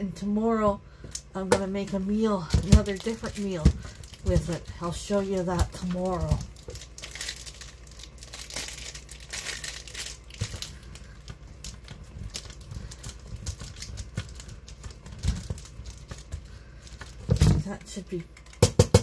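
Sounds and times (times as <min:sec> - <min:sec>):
plastic wrapper crinkling: 0:01.8 - 0:17.5.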